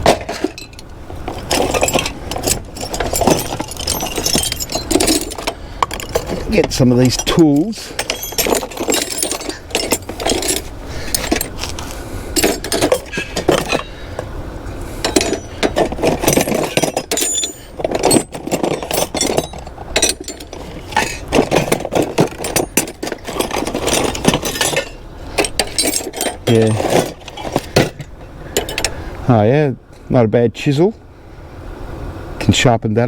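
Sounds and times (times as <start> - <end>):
metal hand tools clinking: 0.0 - 14.0, 15.0 - 29.0.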